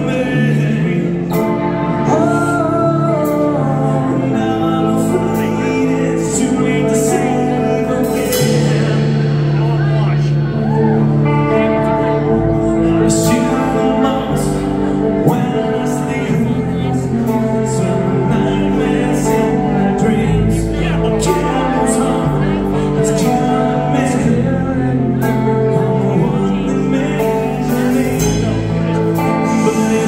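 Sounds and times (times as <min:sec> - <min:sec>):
bass guitar: 0:00.0 - 0:30.0
electric guitar: 0:00.0 - 0:30.0
man singing: 0:00.0 - 0:30.0
drum kit with cymbal hits: 0:05.0 - 0:30.0.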